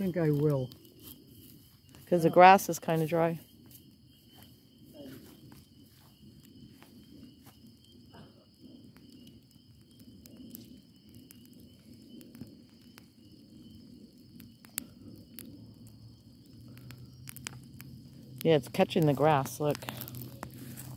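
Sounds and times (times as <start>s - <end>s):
bonfire crackling and popping: 0.0s - 20.9s
crickets trilling: 0.0s - 20.9s.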